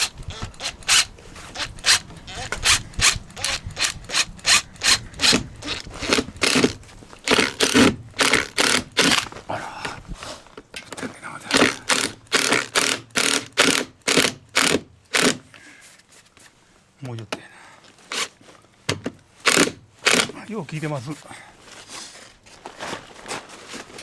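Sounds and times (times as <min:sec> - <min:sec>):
hand tool scraping wood: 0:00.0 - 0:16.6, 0:18.0 - 0:18.5, 0:19.4 - 0:24.0.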